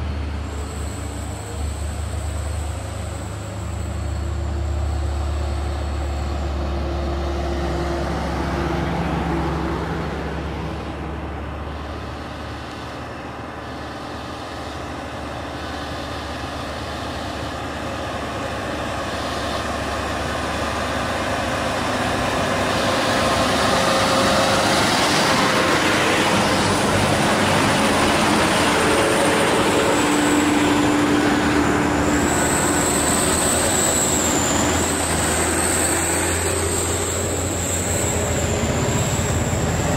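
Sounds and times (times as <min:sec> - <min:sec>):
diesel trucks passing: 0:00.0 - 0:39.9.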